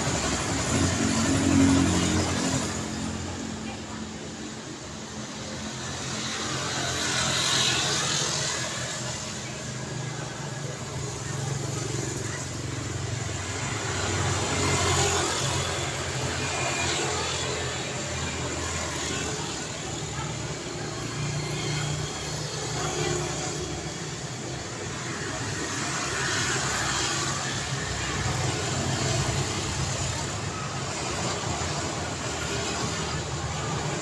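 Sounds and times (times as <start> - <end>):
road traffic going by: 0.0 - 34.0.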